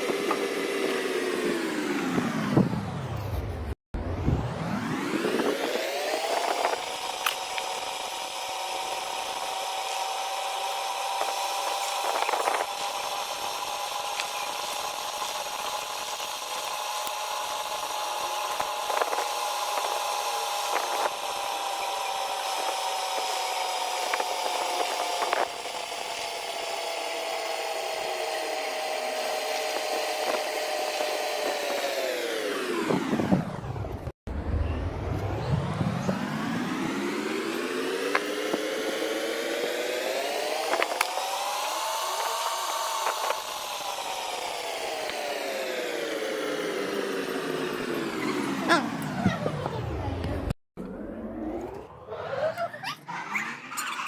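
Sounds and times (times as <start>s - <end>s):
small electric motor whining: 0.0s - 3.6s, 4.3s - 54.0s.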